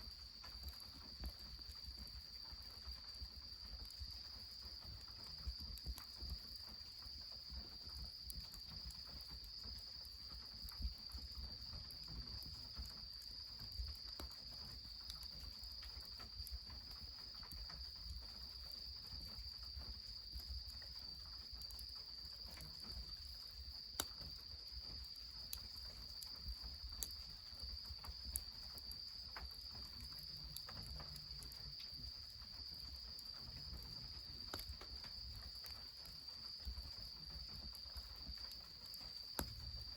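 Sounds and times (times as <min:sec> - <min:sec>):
insects trilling: 0:00.0 - 0:39.9
wood fire crackling: 0:00.0 - 0:39.9.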